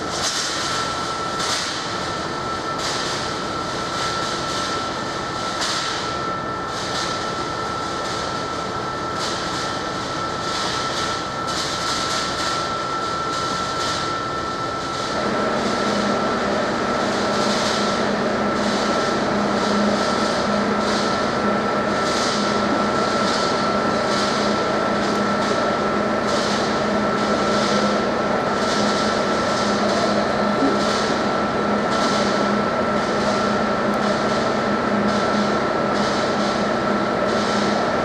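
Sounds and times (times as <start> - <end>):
electric locomotive whine: 0.0 - 38.0.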